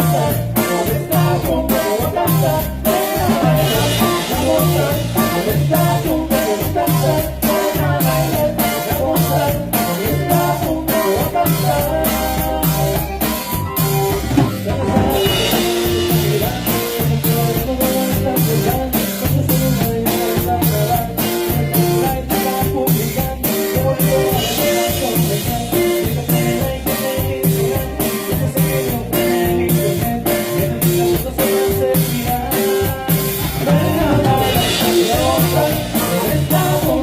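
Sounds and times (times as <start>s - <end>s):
live band playing dance music: 0.0s - 37.0s.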